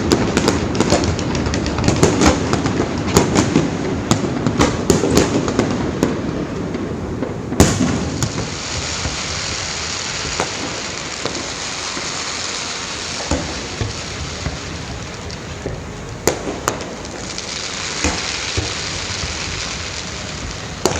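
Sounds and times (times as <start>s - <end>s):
fireworks bangs: 0.0s - 20.9s
fireworks crackling: 0.0s - 20.9s.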